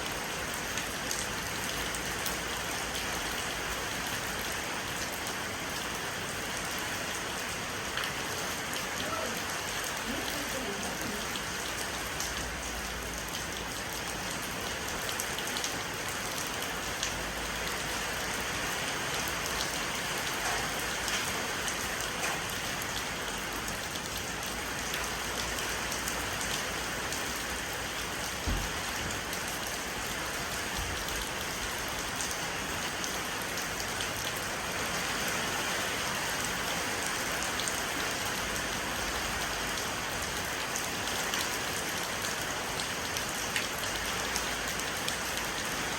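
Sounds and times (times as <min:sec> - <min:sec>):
rain on porch: 0:00.0 - 0:45.9.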